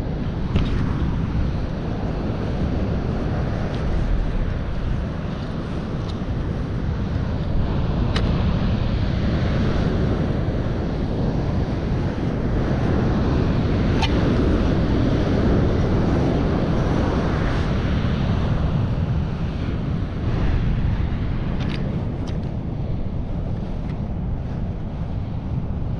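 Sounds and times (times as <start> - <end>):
ocean surf: 0.0 - 25.9
wind buffeting microphone: 0.0 - 25.9.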